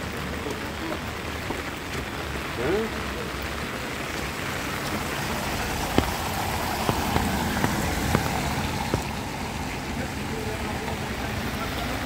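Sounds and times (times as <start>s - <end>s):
car tyres hissing on wet road: 0.0s - 12.0s
rain on pavement: 0.0s - 12.0s.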